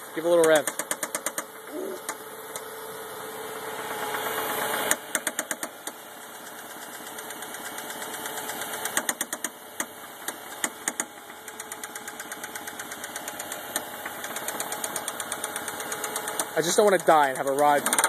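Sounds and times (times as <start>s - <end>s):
engine knocking: 0.2s - 1.5s, 3.8s - 18.0s.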